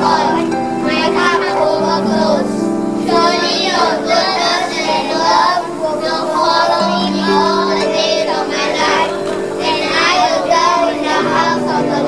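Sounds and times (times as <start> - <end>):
children singing together: 0.0 - 12.0
musical accompaniment: 0.0 - 12.0.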